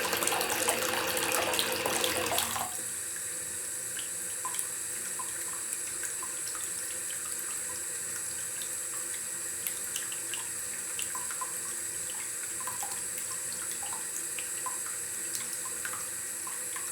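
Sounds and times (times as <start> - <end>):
tap water filling bathtub: 0.0 - 16.9.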